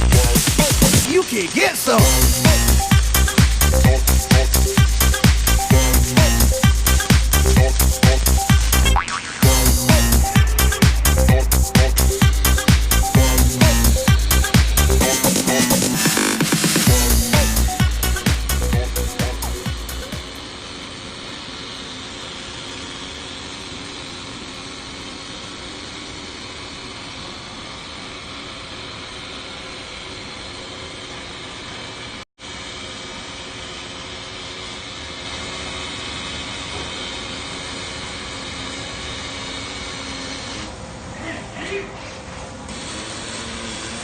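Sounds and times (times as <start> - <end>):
hissing factory machinery: 0.0 - 44.0.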